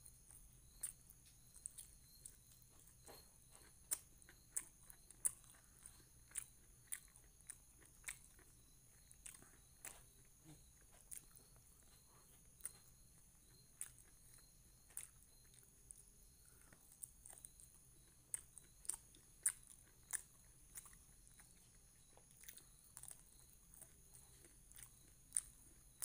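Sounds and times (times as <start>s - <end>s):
wet chewing: 0.2s - 26.0s.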